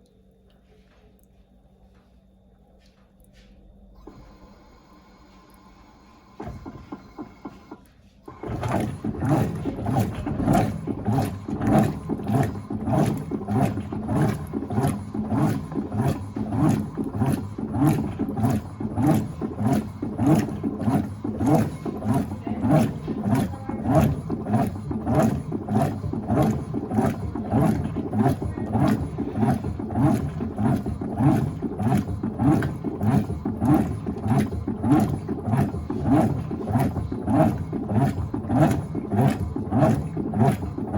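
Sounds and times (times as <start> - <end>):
washing machine agitator churning: 4.0 - 40.9.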